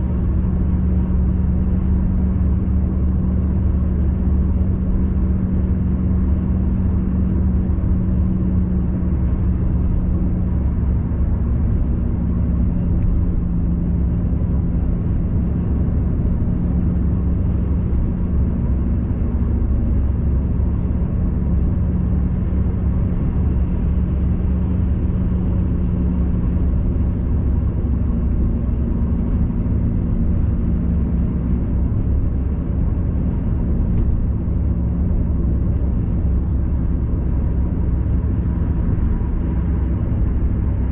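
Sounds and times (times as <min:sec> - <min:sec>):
car cabin road rumble: 0:00.0 - 0:40.9.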